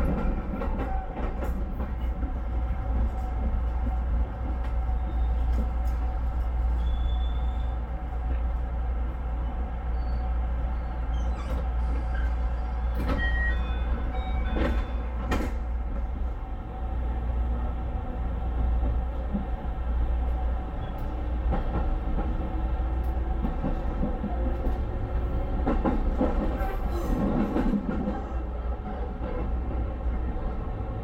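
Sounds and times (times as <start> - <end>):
train interior rumble: 0.0 - 31.0.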